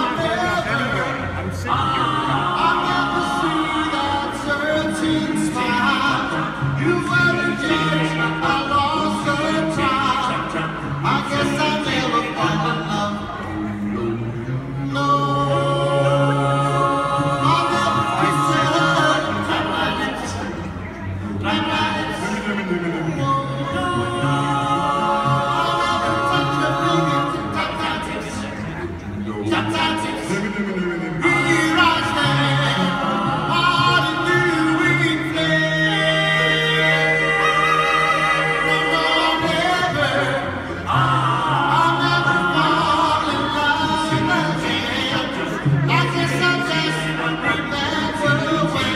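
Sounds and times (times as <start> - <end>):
vocal group singing a cappella: 0.0 - 48.9.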